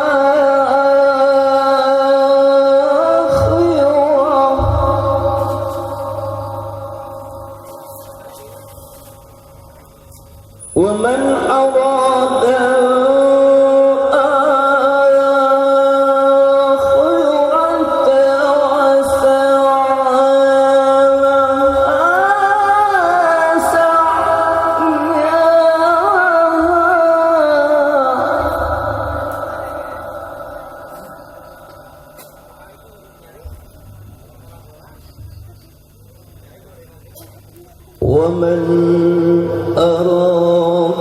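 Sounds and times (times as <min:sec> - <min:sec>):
man chanting a long note: 0:00.0 - 0:33.6.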